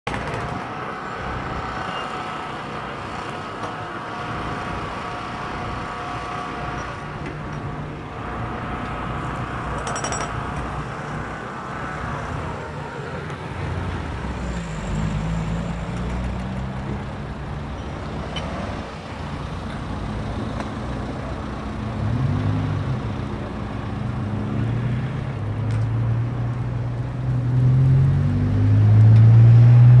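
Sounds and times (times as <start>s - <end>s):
vehicles driving past: 0.1s - 30.0s.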